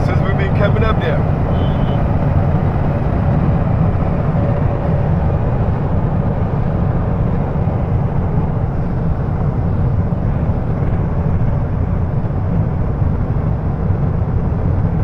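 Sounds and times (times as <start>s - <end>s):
road traffic rumble: 0.0s - 15.0s
tanker truck running alongside: 0.0s - 15.0s.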